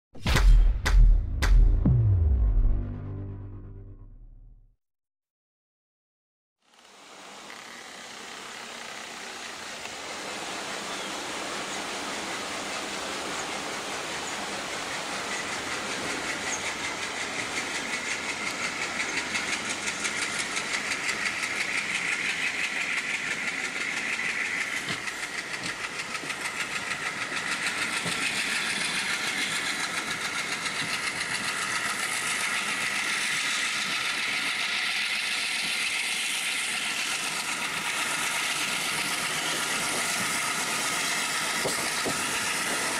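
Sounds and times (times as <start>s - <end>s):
diesel locomotive engine chugging: 7.6s - 42.9s.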